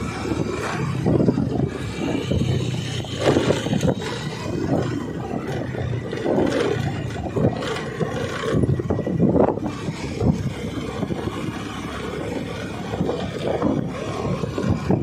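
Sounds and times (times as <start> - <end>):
motorcycle engine drone: 0.0 - 15.0
wind buffeting microphone: 0.0 - 15.0.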